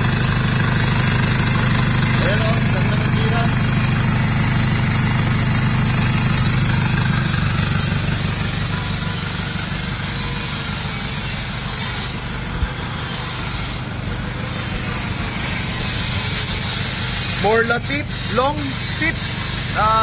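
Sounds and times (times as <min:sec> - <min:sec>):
engine idling through exhaust: 0:00.0 - 0:20.0.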